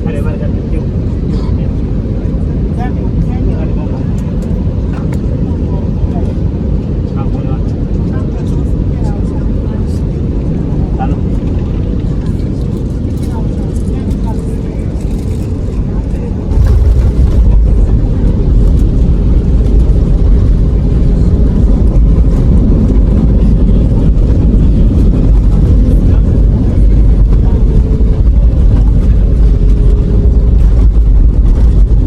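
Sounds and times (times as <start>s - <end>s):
airliner engines and runway rumble: 0.0s - 32.0s.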